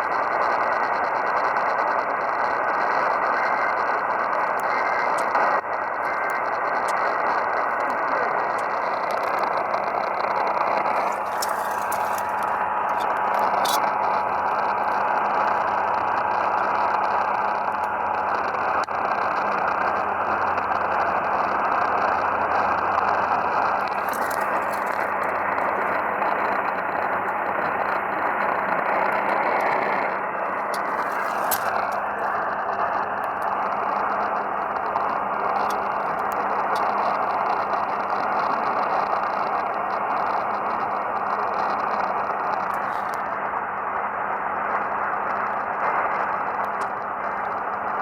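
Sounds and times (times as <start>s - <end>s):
faint crackles: 0.0s - 48.0s
radio static hiss: 0.0s - 48.0s.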